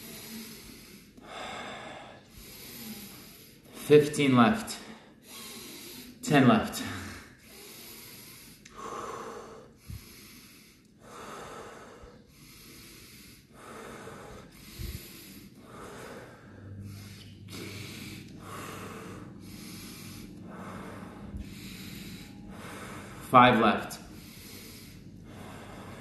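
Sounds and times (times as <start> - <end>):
man breathing deeply: 0.0 - 26.0.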